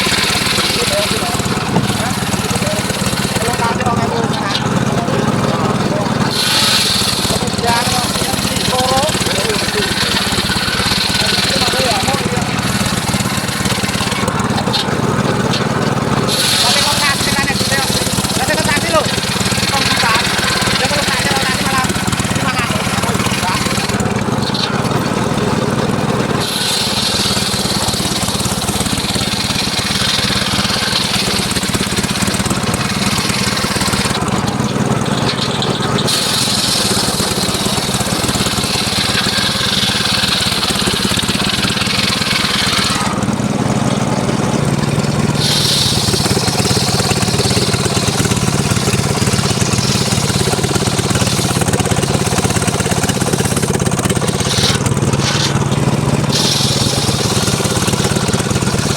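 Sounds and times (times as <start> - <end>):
saw blade rasping through wood: 0.0 - 58.9
sawmill engine running: 0.0 - 58.9.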